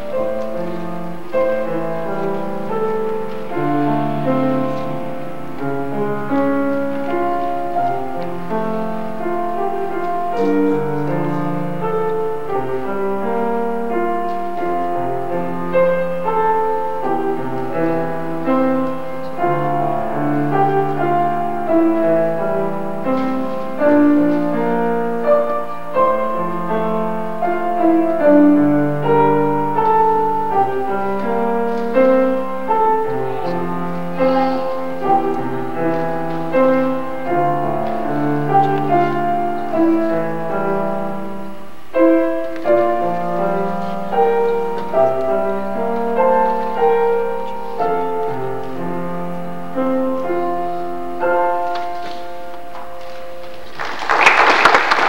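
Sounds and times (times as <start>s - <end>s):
acoustic piano piece: 0.0s - 55.0s.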